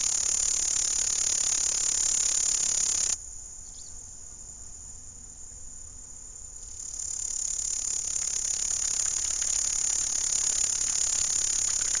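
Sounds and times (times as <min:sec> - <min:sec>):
insect stridulating: 0:00.0 - 0:12.0.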